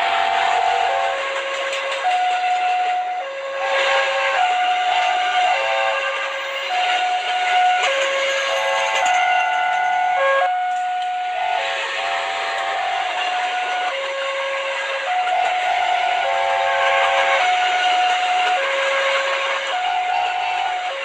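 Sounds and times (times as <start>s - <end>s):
steam train whistle: 0.0s - 21.0s.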